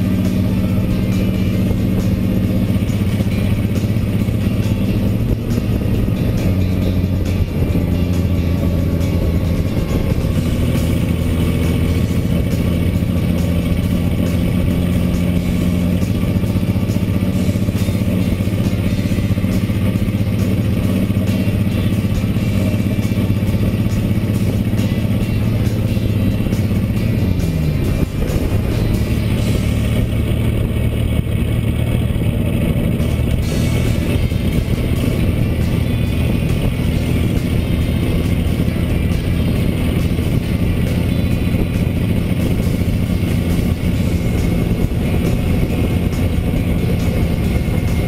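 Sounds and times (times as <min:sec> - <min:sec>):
car engine running: 0:00.0 - 0:48.0
wind and road noise: 0:00.0 - 0:48.0.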